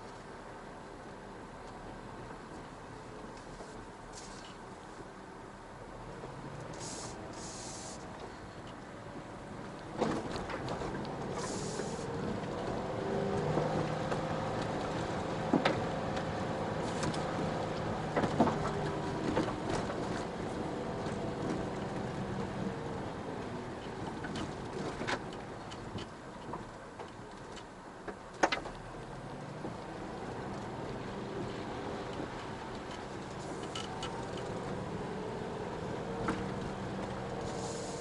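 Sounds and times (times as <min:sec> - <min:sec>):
car engine hum: 0:00.0 - 0:38.0
tyre and road noise: 0:00.0 - 0:38.0.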